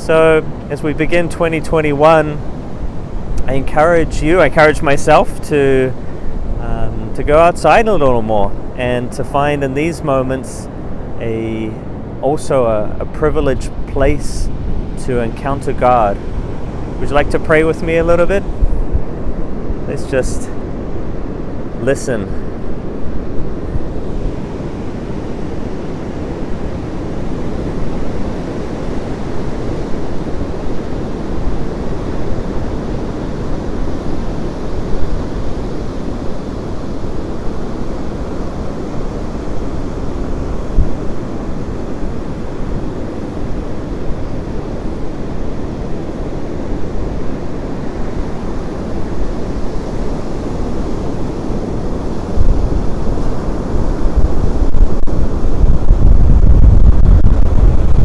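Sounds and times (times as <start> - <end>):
ocean surf breaking on beach: 0.0 - 58.0
wind buffeting microphone: 0.0 - 58.0.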